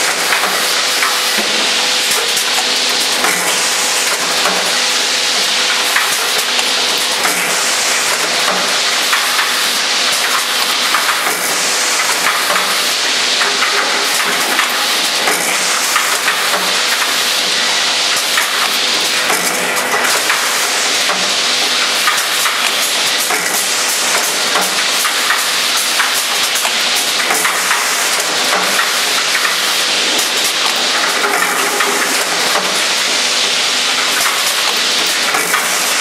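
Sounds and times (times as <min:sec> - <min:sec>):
filling machine hiss and hum: 0:00.0 - 0:36.0.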